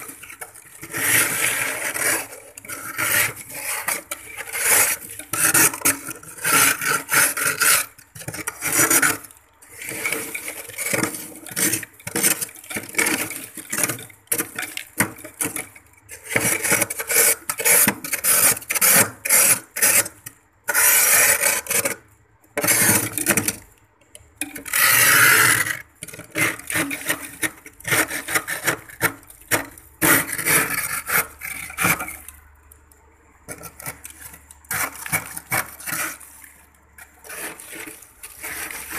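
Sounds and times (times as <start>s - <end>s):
scraper scraping ice in freezer: 0.0s - 23.7s, 24.4s - 32.5s, 33.4s - 38.9s.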